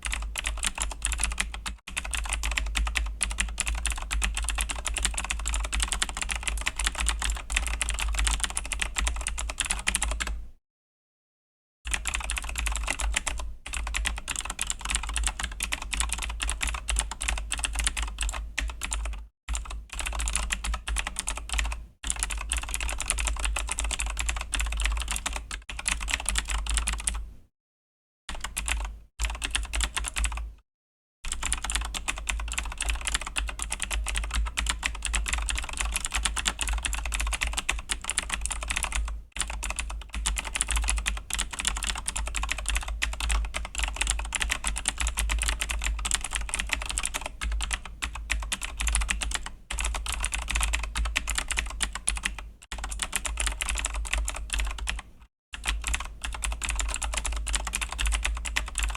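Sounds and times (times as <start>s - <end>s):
fast typing on mechanical keyboard: 0.0s - 10.4s, 11.9s - 27.2s, 28.3s - 30.4s, 31.3s - 58.9s.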